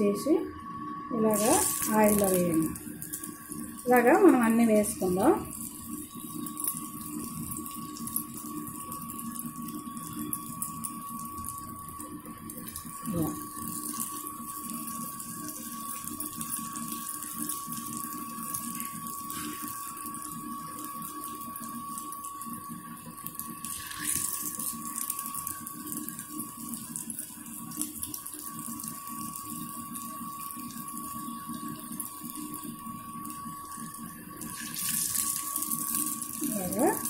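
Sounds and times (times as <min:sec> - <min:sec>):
food sizzling in hot oil: 0:01.2 - 0:37.0.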